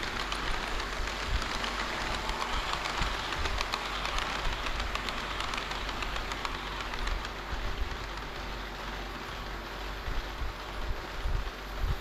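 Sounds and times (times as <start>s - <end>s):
model train wheels clicking: 0.0s - 12.0s.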